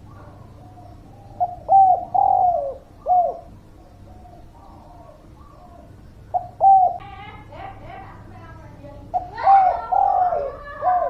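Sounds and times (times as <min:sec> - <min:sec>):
dove cooing: 0:00.0 - 0:07.2, 0:09.1 - 0:11.0.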